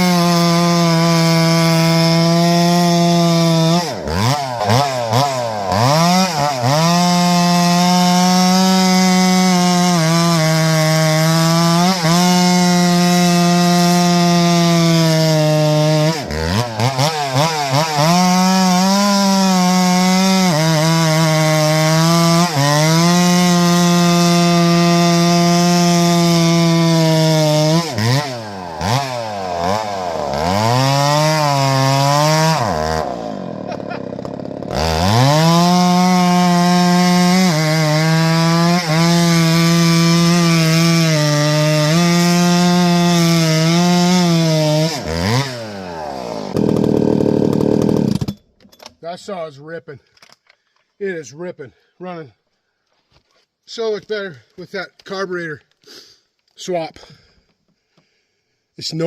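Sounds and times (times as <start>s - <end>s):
chainsaw cutting wood: 0.0s - 49.1s.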